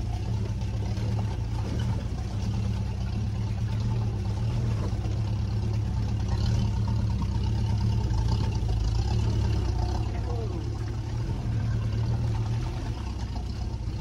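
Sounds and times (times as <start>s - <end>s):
car engine droning inside vehicle: 0.0s - 14.0s.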